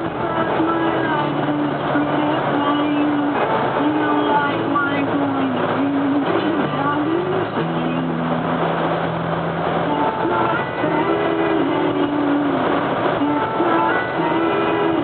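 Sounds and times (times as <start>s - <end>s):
car road noise: 0.0s - 15.0s
music playing: 0.0s - 15.0s.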